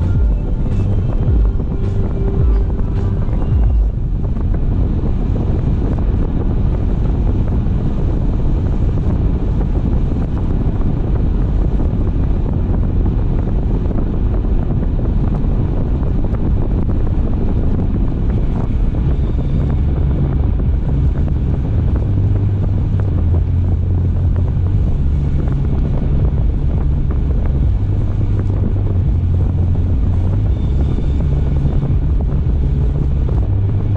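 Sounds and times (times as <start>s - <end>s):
car wind and road noise: 0.0s - 33.9s.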